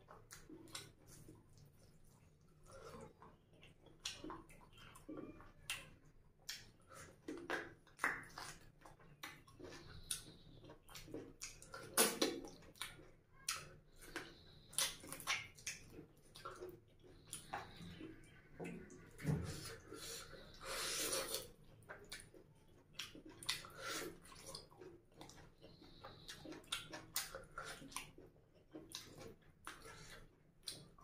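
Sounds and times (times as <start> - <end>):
chewing and lip-smacking: 0.0 - 31.0.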